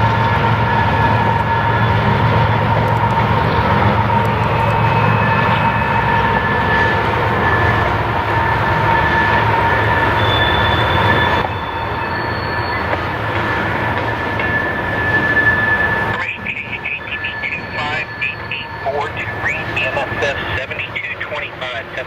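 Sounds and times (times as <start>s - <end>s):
wheels squealing: 0.0s - 20.6s
freight train rumbling: 0.0s - 22.0s.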